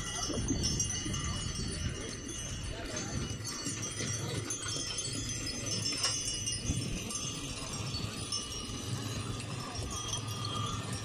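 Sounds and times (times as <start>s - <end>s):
metal jingling and clinking: 0.0s - 11.0s.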